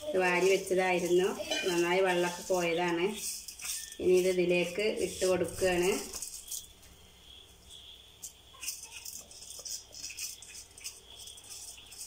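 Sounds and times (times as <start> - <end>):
pot of rice boiling: 0.0 - 12.0.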